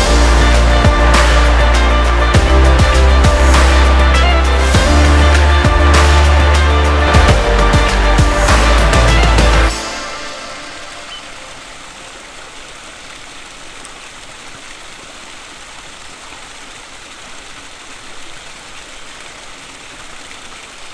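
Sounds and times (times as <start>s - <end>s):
waterfall splashing into pool: 0.0s - 20.9s.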